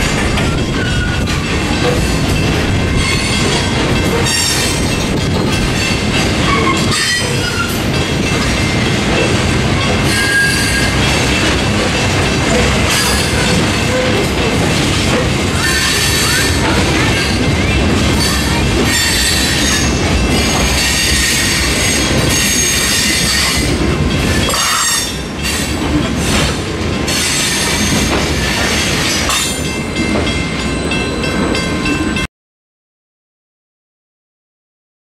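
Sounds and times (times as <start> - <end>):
train wheels clattering over rails: 0.0 - 32.1.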